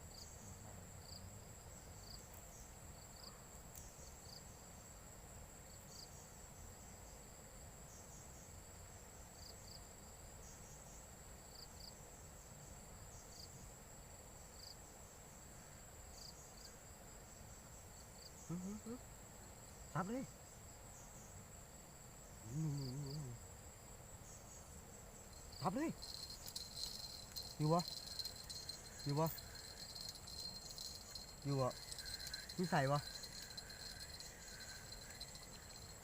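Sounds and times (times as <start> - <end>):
insect chirps: 0.0 - 36.0
insects trilling: 0.0 - 36.0.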